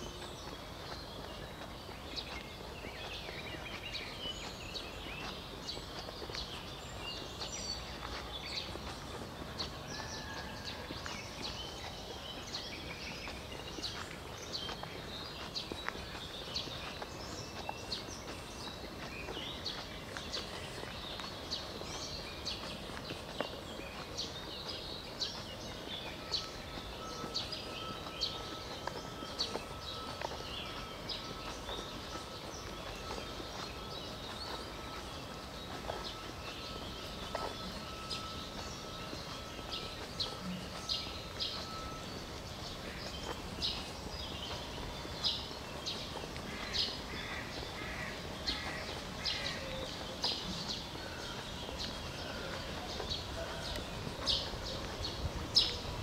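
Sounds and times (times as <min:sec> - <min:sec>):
songbirds chirping and trilling: 0:00.0 - 0:56.0
thin steady tone: 0:02.2 - 0:56.0.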